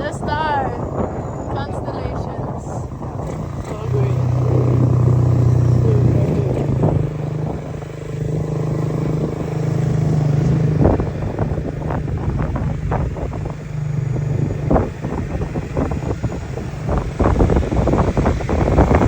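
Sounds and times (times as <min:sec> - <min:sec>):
knocks and buffeting: 0:00.0 - 0:19.0
motorcycle engine droning: 0:00.0 - 0:19.0.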